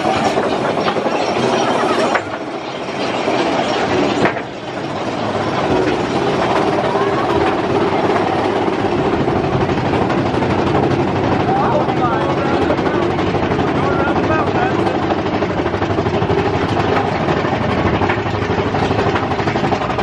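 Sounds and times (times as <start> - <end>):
roller coaster wheels rattling: 0.0 - 20.0
steady running hum: 0.0 - 20.0.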